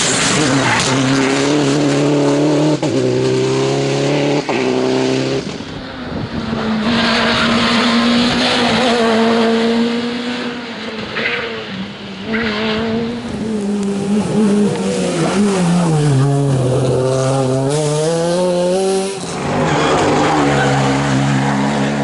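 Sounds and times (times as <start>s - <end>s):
rally car engine accelerating: 0.0s - 5.7s, 6.4s - 22.0s
rally car passing by: 0.0s - 22.0s.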